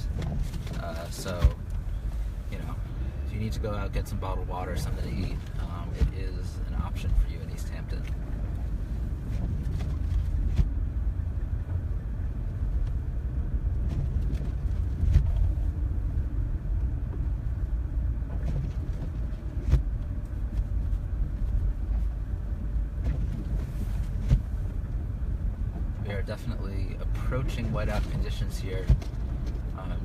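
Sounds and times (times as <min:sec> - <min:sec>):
car rumbling on snowy road: 0:00.0 - 0:30.0.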